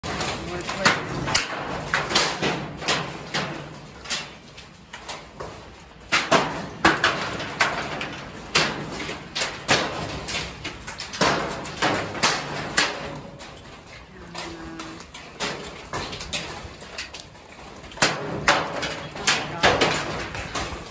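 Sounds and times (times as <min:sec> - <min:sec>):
hailstones striking hard surfaces: 0:00.0 - 0:20.9.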